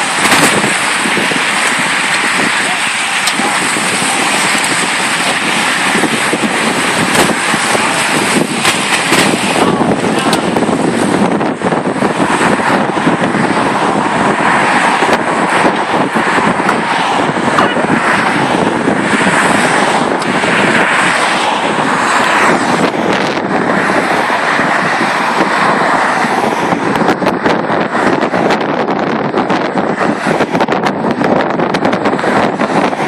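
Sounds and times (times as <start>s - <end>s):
race cars passing: 0.0s - 33.0s
wind buffeting microphone: 0.0s - 33.0s.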